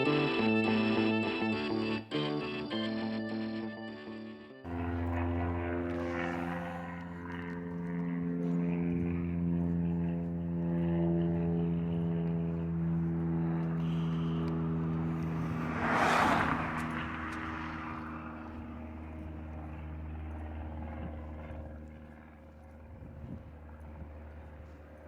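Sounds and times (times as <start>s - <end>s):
vehicle engine running: 4.2s - 25.0s.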